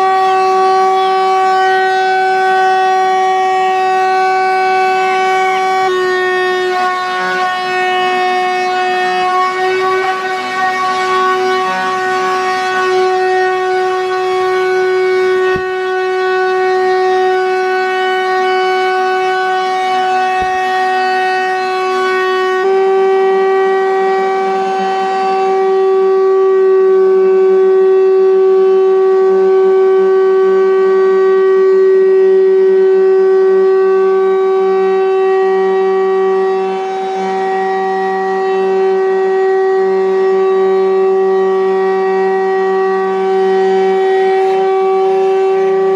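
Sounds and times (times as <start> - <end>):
shop vacuum motor whining: 0.0 - 45.9.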